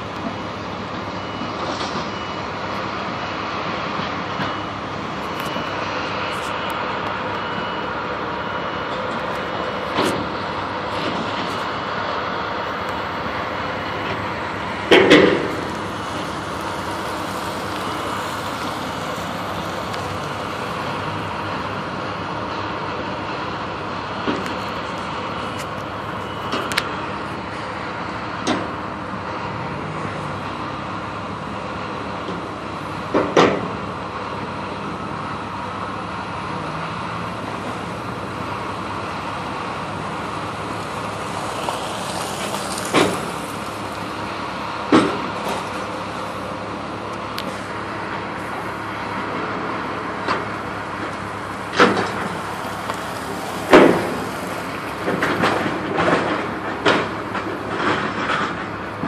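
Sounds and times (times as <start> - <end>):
excavator running: 0.0 - 59.0.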